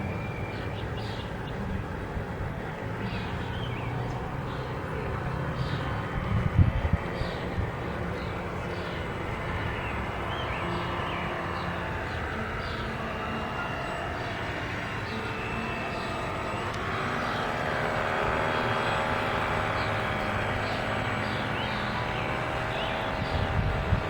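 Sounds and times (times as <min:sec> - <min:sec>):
model boat motor drone: 0:00.0 - 0:24.0.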